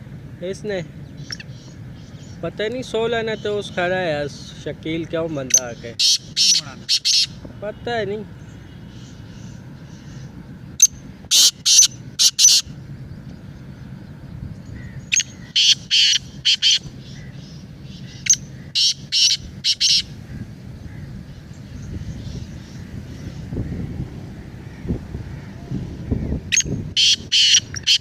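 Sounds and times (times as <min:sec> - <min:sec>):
francolin calling: 0:01.0 - 0:07.5, 0:08.4 - 0:13.9, 0:14.6 - 0:28.0.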